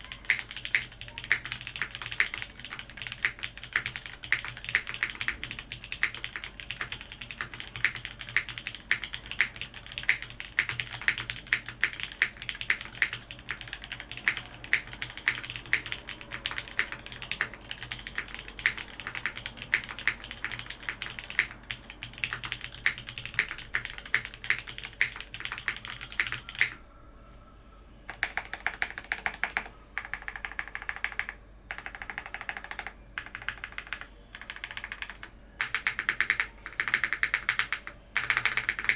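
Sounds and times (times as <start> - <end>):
mechanical keyboard typing: 0.0 - 26.8, 28.1 - 38.9.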